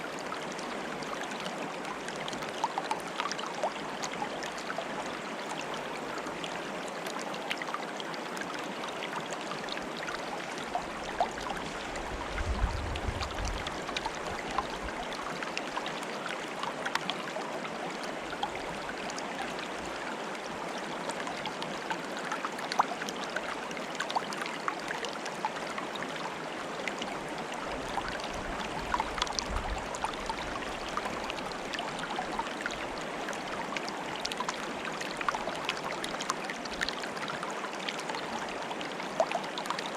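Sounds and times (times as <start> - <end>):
stream water bubbling: 0.0 - 39.9.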